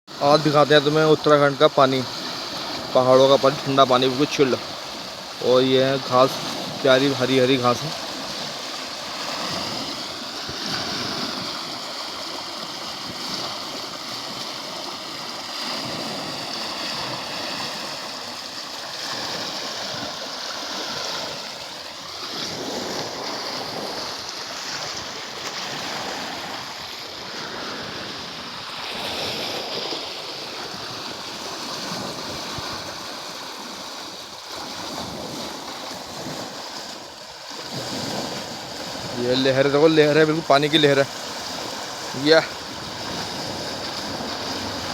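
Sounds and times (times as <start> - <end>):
water rushing along a canal: 0.1 - 44.9.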